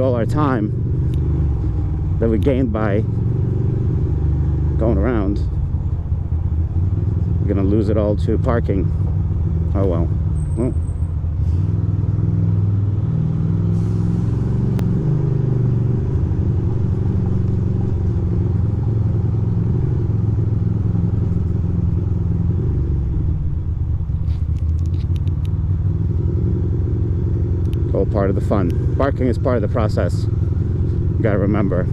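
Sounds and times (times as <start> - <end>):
motorcycle engine at low revs: 0.0 - 31.9.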